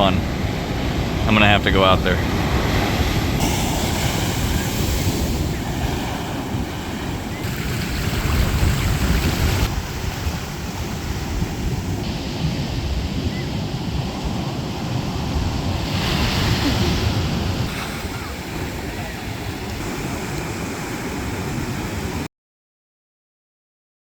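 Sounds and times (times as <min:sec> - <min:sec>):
ocean surf washing onto beach: 0:00.0 - 0:22.3
wind buffeting microphone: 0:02.0 - 0:22.3.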